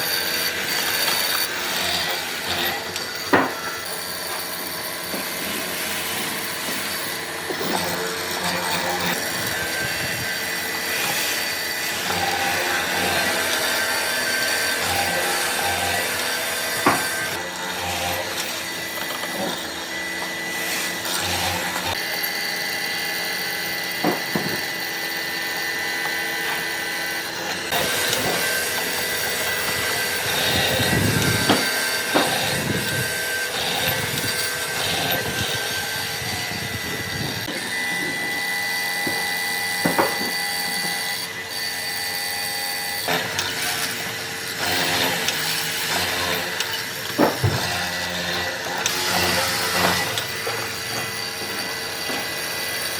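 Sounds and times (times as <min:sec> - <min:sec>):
power tool cutting wood: 0:00.0 - 0:52.9.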